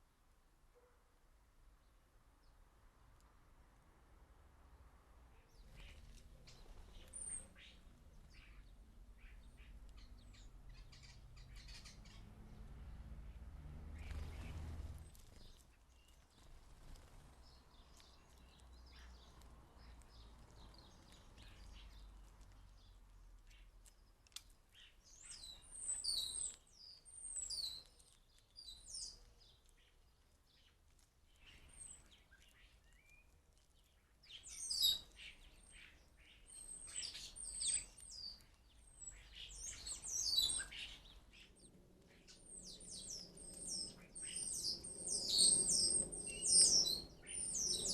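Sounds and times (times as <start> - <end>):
small birds chirping and twittering: 5.3 - 47.9.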